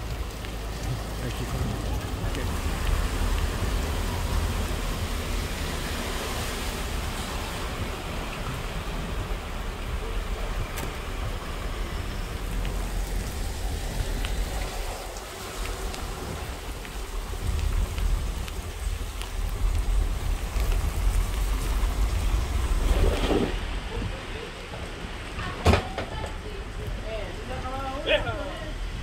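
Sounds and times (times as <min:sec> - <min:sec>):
low rumble: 0:00.0 - 0:25.6
rain on a wet street: 0:00.0 - 0:29.0.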